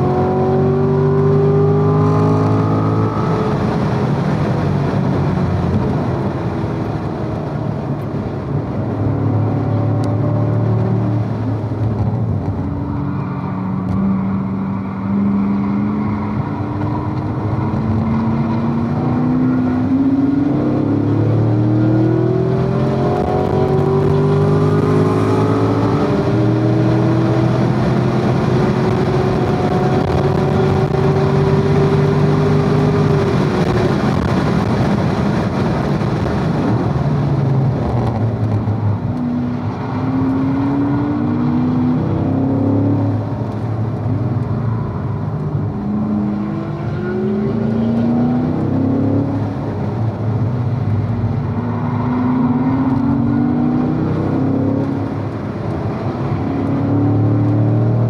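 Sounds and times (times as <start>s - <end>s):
car engine accelerating: 0.0s - 58.0s
engine downshifting under braking: 0.0s - 58.0s.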